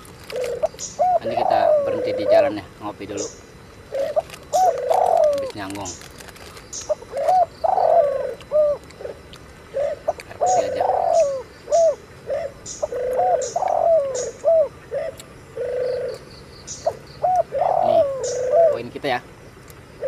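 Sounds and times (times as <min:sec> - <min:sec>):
doves cooing: 0:00.0 - 0:19.2
small birds chirping: 0:00.0 - 0:20.0.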